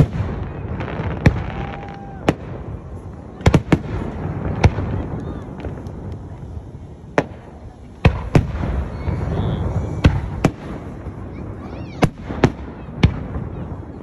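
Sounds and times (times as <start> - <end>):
fireworks bursting with bangs: 0.0 - 14.0.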